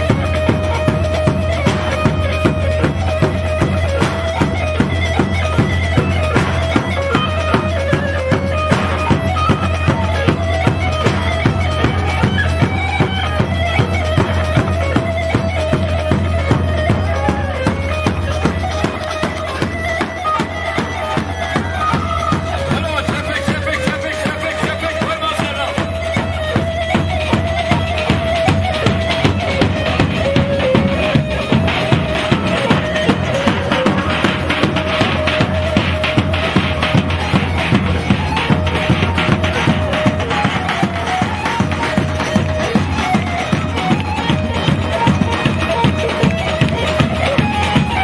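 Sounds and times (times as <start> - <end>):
reedy lead melody over fast beat: 0.0 - 48.0.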